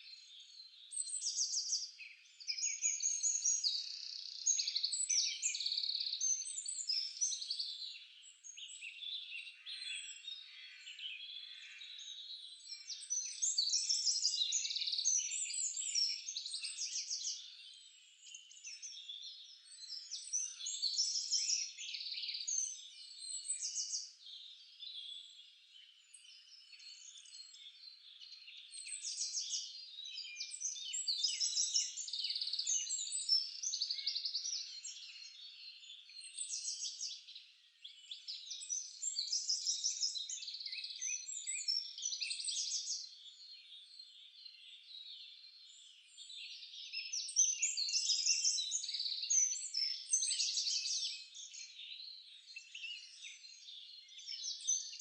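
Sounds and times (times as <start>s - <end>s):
birds chirping and trilling: 0.1s - 55.0s.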